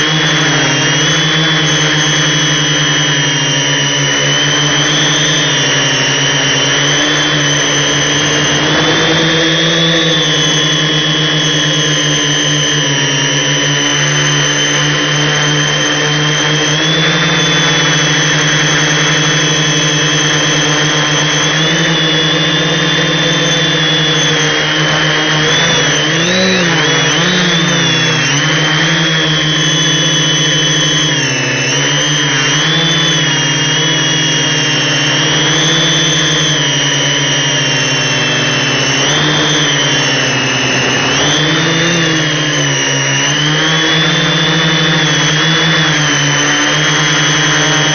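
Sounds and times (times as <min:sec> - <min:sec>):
drone propellers buzzing: 0:00.0 - 0:47.9.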